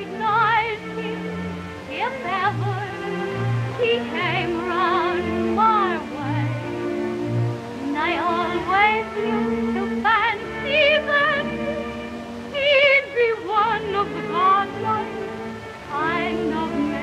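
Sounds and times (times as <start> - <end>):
woman singing a slow ballad: 0.0 - 1.3, 1.9 - 6.6, 7.8 - 11.8, 12.5 - 17.0
instrumental accompaniment: 0.0 - 17.0.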